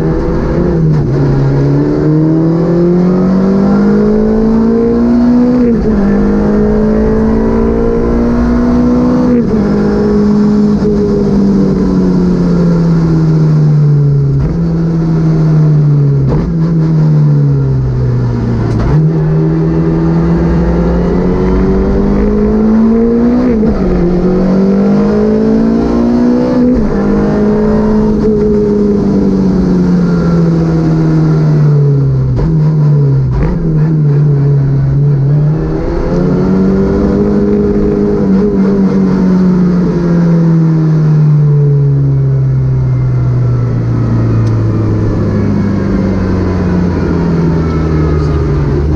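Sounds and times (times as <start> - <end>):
rally car engine accelerating: 0.0 - 48.9.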